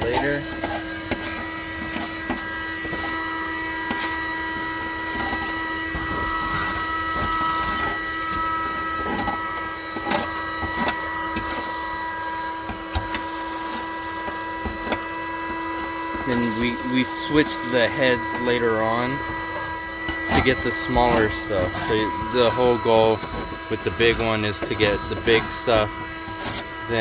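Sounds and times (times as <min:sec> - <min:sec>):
debris clicking in vacuum nozzle: 0:00.0 - 0:27.0
vacuum cleaner motor whine: 0:00.0 - 0:27.0.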